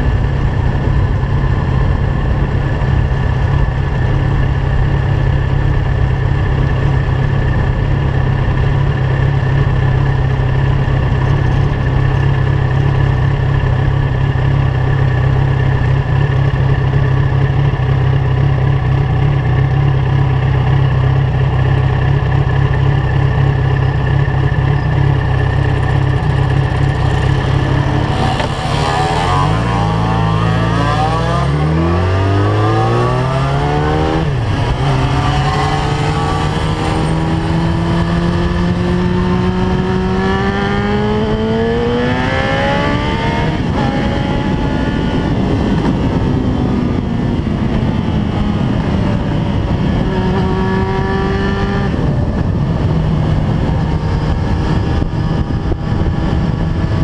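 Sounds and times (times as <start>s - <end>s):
motorcycle engine running and accelerating: 0.0s - 57.0s.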